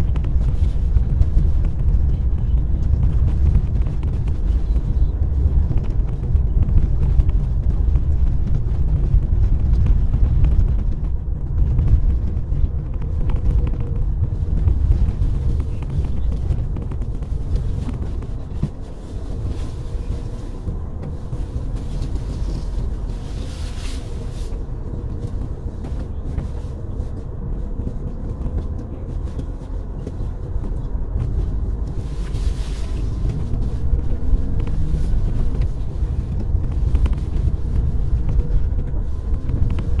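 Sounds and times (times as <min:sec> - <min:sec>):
car engine and tyres rumbling: 0:00.0 - 0:40.0
faint constant hum: 0:00.0 - 0:40.0.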